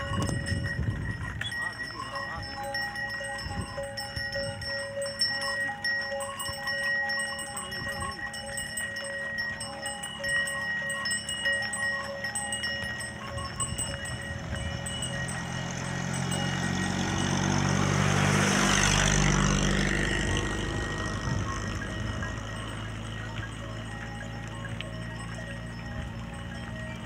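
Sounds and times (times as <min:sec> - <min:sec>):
cattle bells ringing: 0:00.0 - 0:27.0.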